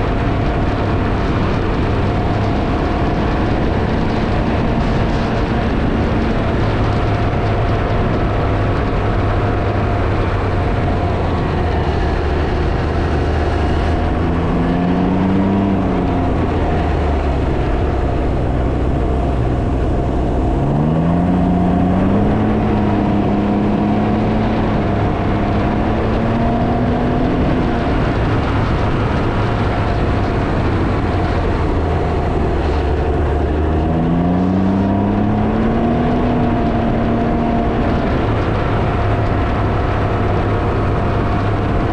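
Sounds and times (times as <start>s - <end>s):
motorbike engine accelerating: 0.0s - 41.9s
wind buffeting microphone: 0.0s - 41.9s.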